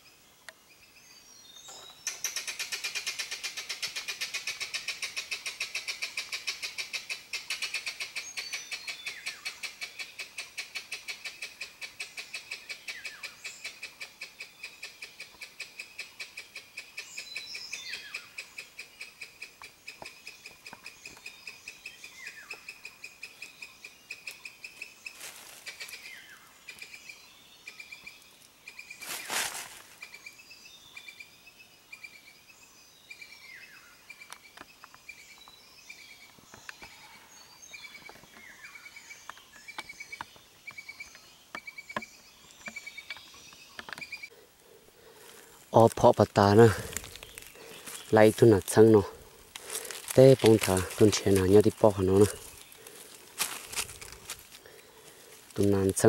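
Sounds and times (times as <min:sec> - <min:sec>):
insect chirping: 0:00.0 - 0:56.0.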